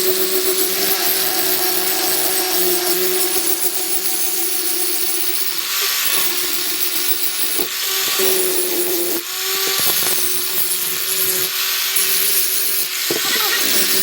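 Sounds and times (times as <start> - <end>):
electric power tool rasping: 0.0 - 14.0.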